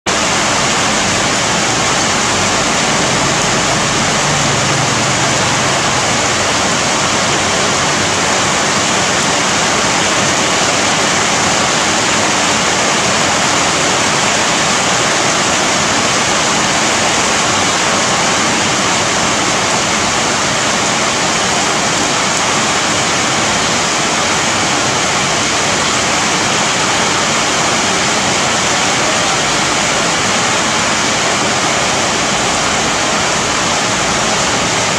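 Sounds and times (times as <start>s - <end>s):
heavy rain on leafy trees: 0.0s - 34.9s.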